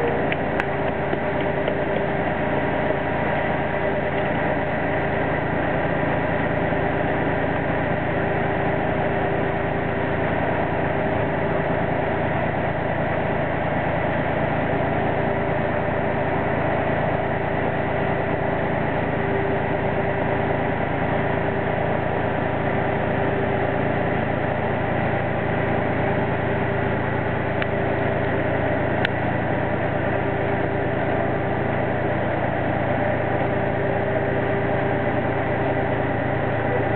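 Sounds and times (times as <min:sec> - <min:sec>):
diesel engines humming: 0:00.0 - 0:36.9.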